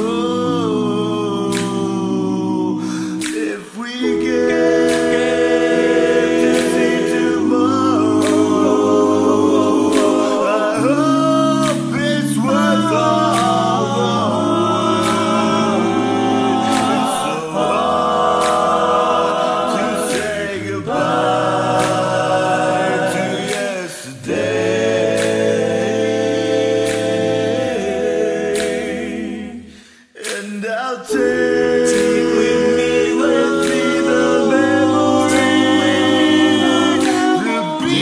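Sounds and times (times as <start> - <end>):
a cappella voices singing chords: 0.0 - 38.0.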